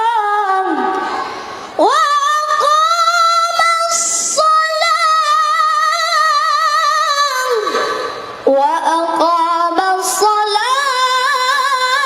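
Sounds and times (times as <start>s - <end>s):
woman reciting melismatic chant: 0.0s - 12.0s.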